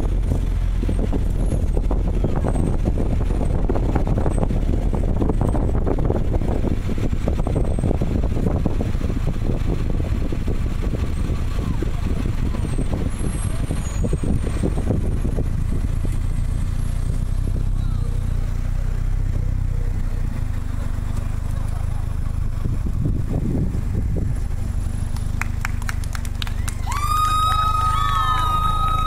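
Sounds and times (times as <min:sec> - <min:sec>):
wind buffeting: 0:00.0 - 0:17.8, 0:22.0 - 0:29.0
car engine running: 0:00.0 - 0:29.0.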